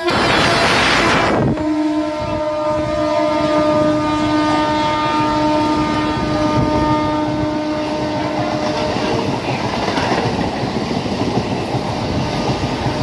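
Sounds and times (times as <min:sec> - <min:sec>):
train rumbling and rattling on rails: 0:00.0 - 0:13.0
train whine: 0:00.0 - 0:13.0.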